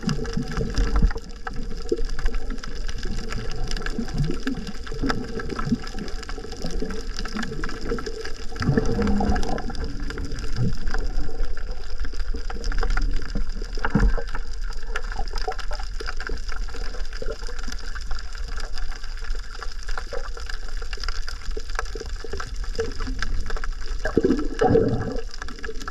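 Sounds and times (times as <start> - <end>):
underwater rumble and gurgling: 0.0 - 25.9
water swirls and knocks: 0.0 - 25.9.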